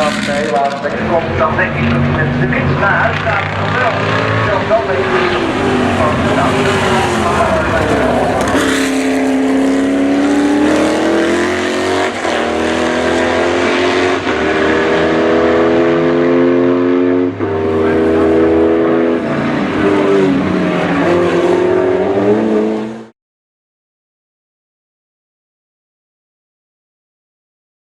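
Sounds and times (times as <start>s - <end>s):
race car engine accelerating hard: 0.0s - 23.1s.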